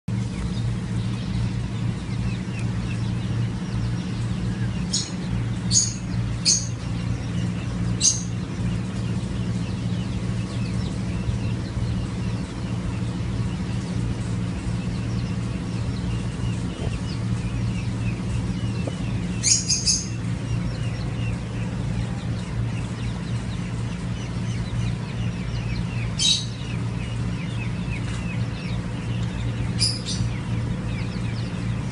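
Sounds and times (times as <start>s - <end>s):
chicks peeping: 0.1s - 31.9s
low hum: 0.1s - 31.9s.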